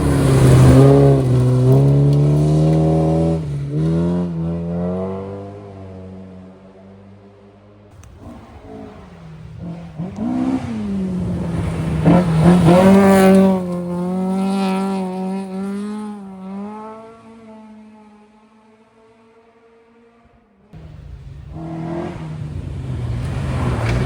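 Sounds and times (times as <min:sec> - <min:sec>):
rally car engine passing: 0:00.0 - 0:07.4, 0:08.0 - 0:24.0.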